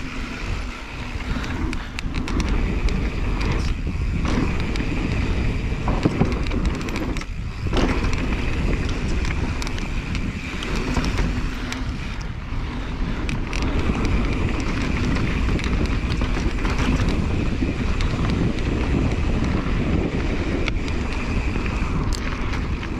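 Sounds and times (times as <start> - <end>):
bike rattling and knocking: 0.0 - 22.9
bike tyres on dirt: 0.0 - 22.9
wind on microphone: 0.0 - 22.9.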